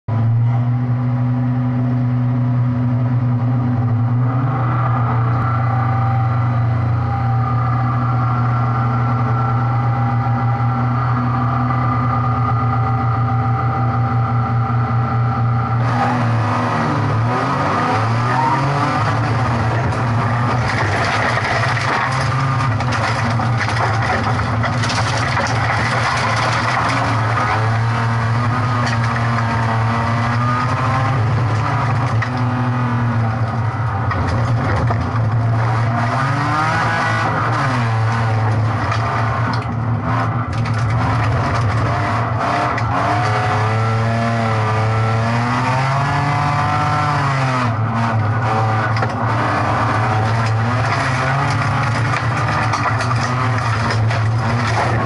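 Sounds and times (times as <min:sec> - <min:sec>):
gravel and tyre noise: 0:00.0 - 0:55.0
rally car engine revving: 0:00.1 - 0:55.0.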